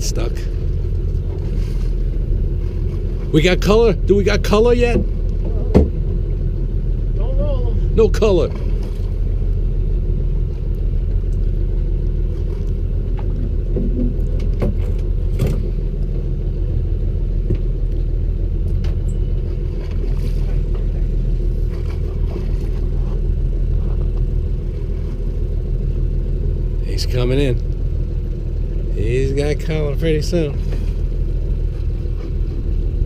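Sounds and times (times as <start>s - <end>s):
boat engine rumbling: 0.0s - 33.0s.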